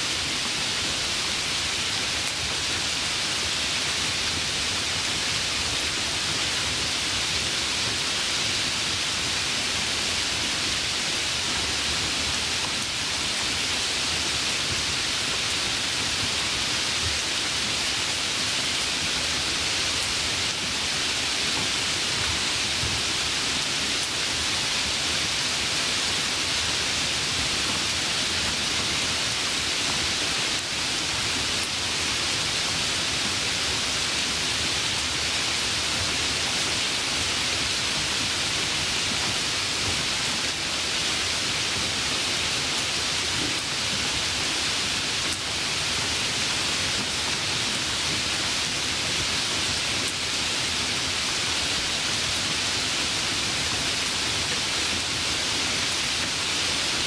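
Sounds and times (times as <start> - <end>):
light rain hiss: 0.0 - 57.0.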